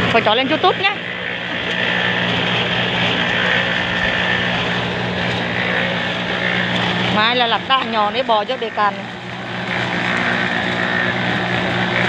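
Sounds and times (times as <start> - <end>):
concrete mixer engine drone: 0.0 - 12.0
turning drum churning: 0.0 - 12.0.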